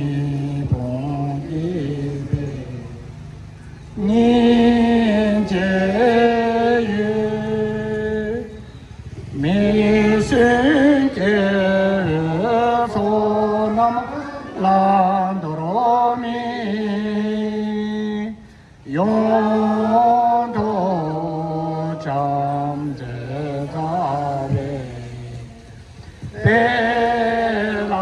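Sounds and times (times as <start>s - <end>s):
voices chanting melodic prayer: 0.0s - 28.0s.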